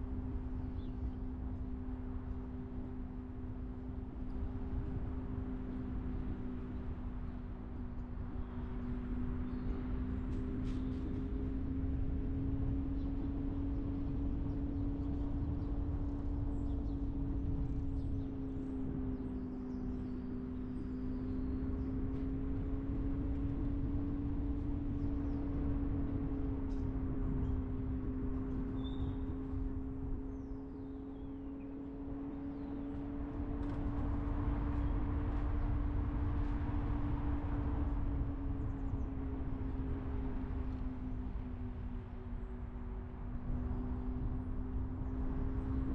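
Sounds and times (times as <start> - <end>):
car engine drone: 0.0 - 45.9
road noise rumble: 0.0 - 45.9.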